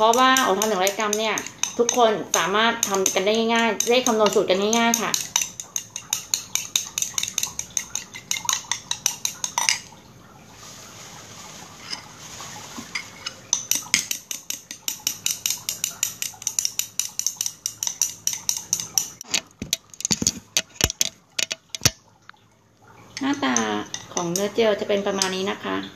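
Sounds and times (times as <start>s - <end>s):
utensil tapping bowl: 0.0s - 9.9s, 12.8s - 22.0s, 23.2s - 25.5s
utensil stirring gel in bowl: 0.0s - 10.0s, 10.6s - 22.0s, 23.1s - 25.6s.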